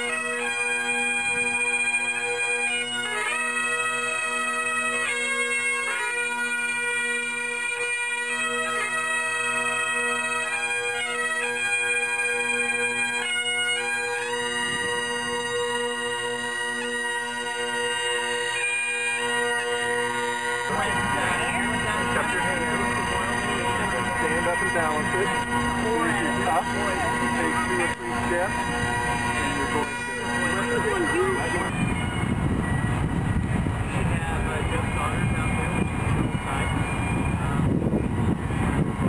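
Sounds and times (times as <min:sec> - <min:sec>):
bagpipes playing: 0:00.0 - 0:39.0.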